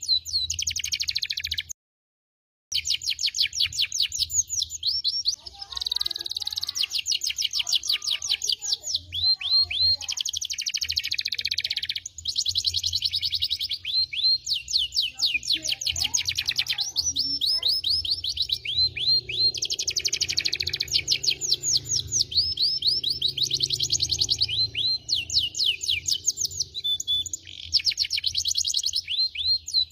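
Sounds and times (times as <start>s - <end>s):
canary singing: 0.0s - 1.8s, 2.7s - 29.9s.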